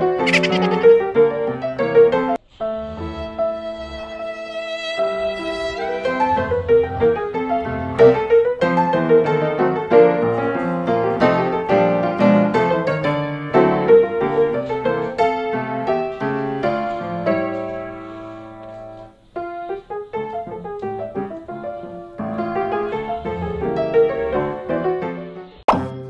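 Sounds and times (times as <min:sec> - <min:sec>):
piano music: 0:00.0 - 0:19.2, 0:19.9 - 0:25.6.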